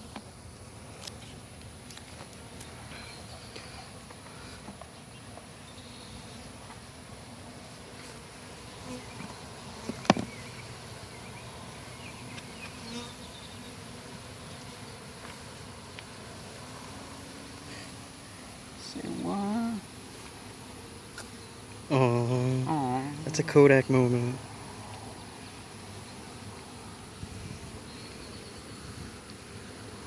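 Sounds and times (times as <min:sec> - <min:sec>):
honey bees buzzing: 0:00.0 - 0:30.0.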